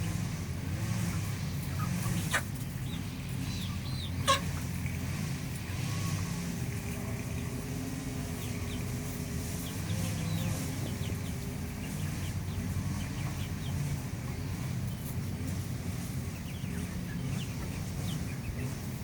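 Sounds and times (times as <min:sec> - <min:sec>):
chicks chirping and clucking: 0:00.0 - 0:19.0.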